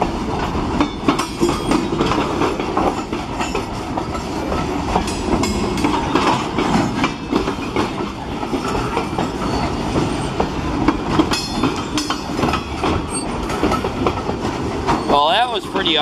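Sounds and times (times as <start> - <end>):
freight train rumbling past: 0.0 - 16.0
wheels clacking over rail joints: 0.0 - 16.0.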